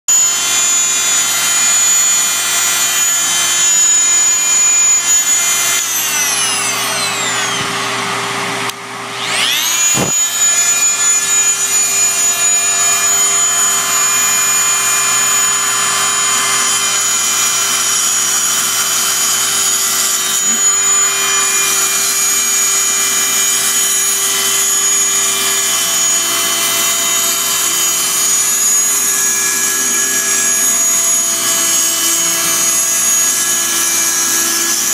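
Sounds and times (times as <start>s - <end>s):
oscillating multi-tool whine: 0.1s - 34.9s.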